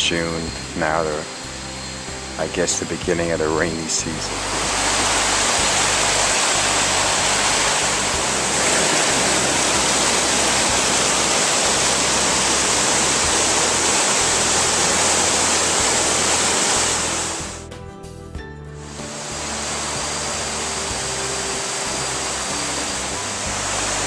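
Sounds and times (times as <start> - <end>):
rushing flowing water: 0.0 - 17.7, 18.8 - 24.0.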